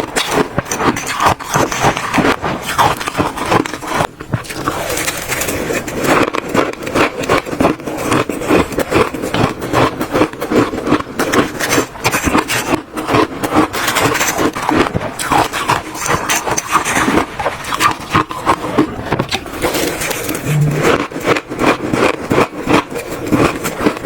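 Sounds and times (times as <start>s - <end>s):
chewing crunchy ice: 0.0s - 24.0s.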